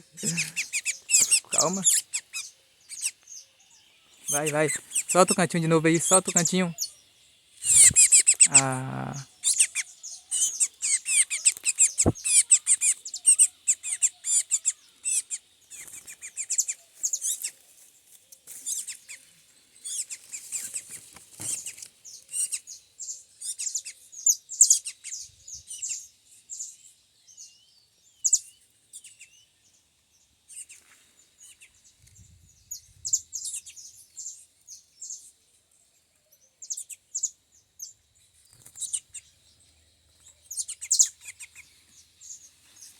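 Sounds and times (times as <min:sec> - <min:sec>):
small bird chirping and twittering: 0:00.0 - 0:42.9.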